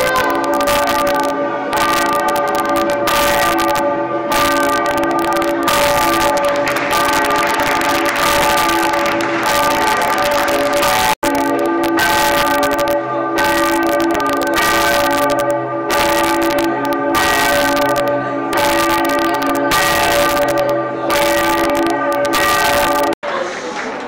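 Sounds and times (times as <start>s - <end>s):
church bells ringing: 0.0s - 23.2s.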